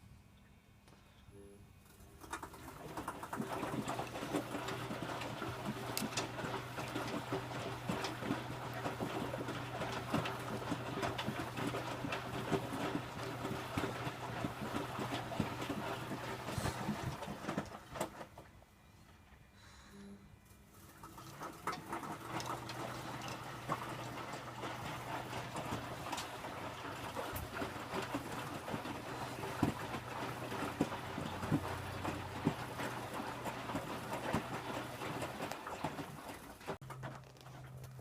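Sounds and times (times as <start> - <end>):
washing machine motor hum: 1.4 - 19.4, 20.3 - 38.0
wet load churning and clattering: 1.8 - 18.6, 20.6 - 38.0.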